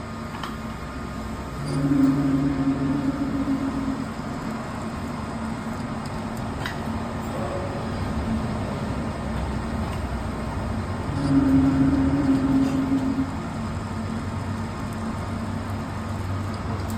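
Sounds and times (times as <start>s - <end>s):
loud steady hum: 0.0s - 15.9s
machine mechanical rumble: 1.3s - 16.9s.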